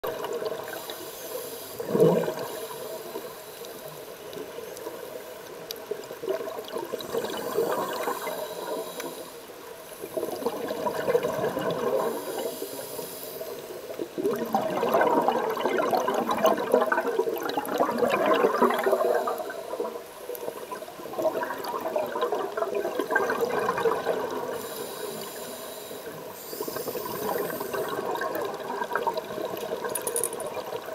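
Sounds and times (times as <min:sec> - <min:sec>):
underwater bubbles gurgling: 0:00.0 - 0:30.9.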